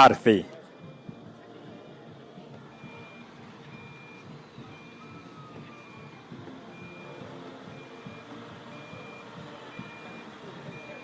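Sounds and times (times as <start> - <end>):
backup alarm beeping: 0.7 - 1.4, 2.7 - 11.0.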